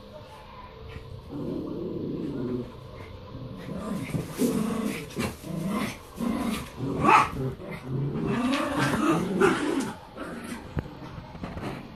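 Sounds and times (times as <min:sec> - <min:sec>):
dogs growling in play: 0:00.8 - 0:11.9.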